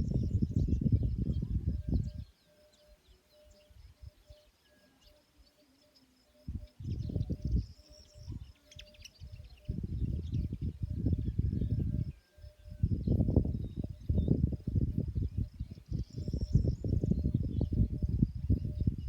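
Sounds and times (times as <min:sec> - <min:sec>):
birds chirping: 0:00.0 - 0:19.0
faint pulsing insect call: 0:00.0 - 0:19.0.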